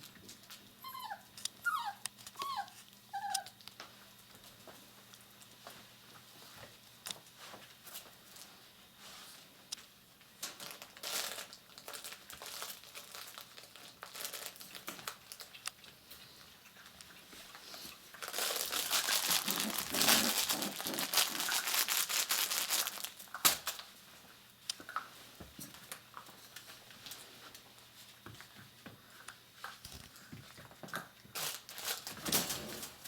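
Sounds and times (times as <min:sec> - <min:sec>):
crinkling and rustling of puppies playing: 0:00.0 - 0:33.0.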